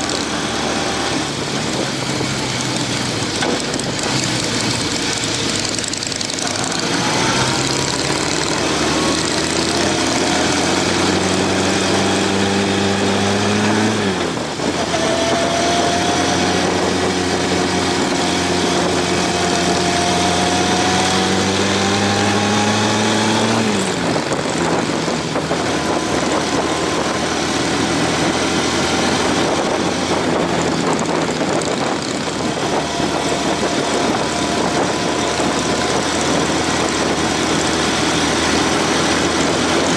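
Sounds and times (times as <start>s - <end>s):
heavy wind noise: 0.0s - 39.9s
motorcycle engine revving: 0.0s - 39.9s.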